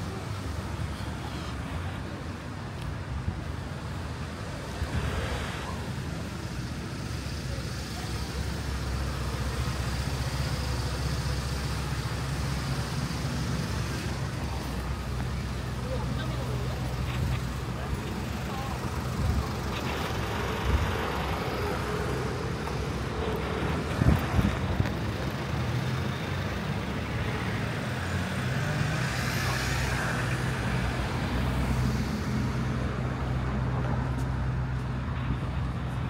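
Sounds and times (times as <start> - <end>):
vehicles passing: 0.0 - 36.0.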